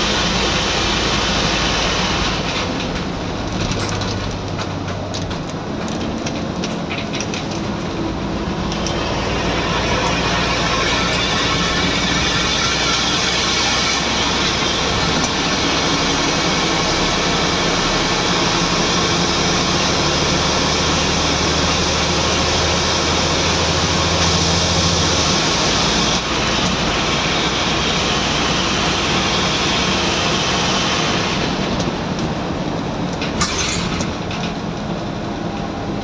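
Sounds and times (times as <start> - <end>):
diesel bus engine under load: 0.0 - 36.0
road and wind noise: 0.0 - 36.0.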